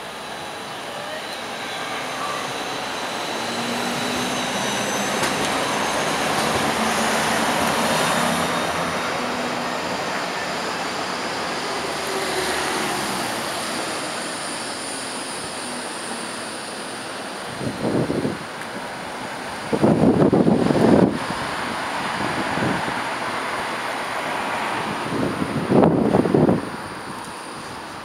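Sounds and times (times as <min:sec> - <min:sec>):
trams rumbling on track: 0:00.0 - 0:28.0.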